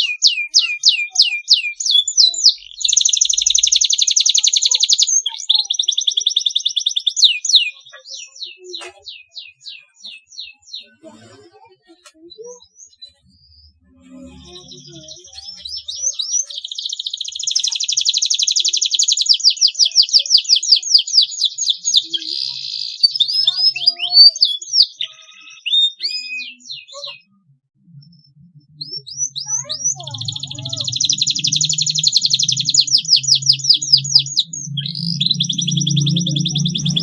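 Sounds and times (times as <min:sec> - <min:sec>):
canary singing: 0:00.0 - 0:11.2, 0:12.2 - 0:37.0.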